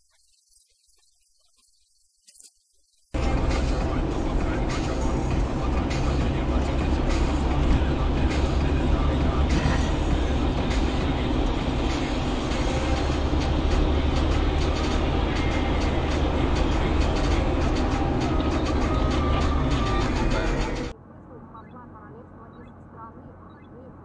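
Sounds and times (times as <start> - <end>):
car road and engine noise: 3.2 - 24.0.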